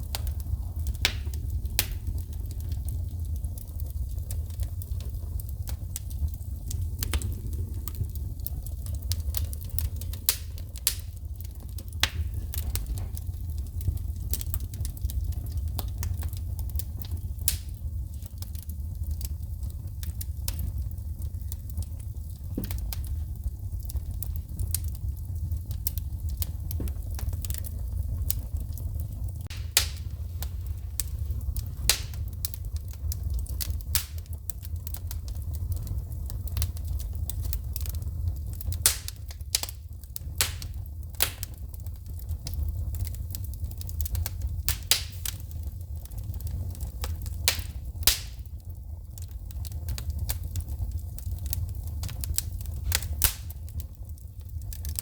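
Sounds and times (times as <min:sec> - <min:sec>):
low rumble of burning fire: 0:00.0 - 0:55.0
wood fire crackling and popping: 0:00.0 - 0:55.0.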